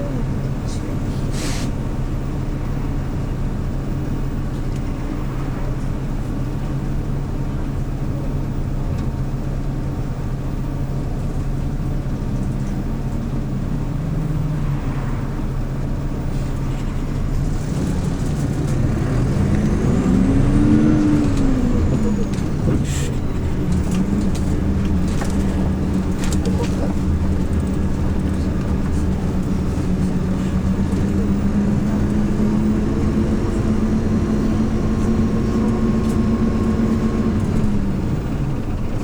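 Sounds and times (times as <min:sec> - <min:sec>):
bus engine running: 0:00.0 - 0:39.0.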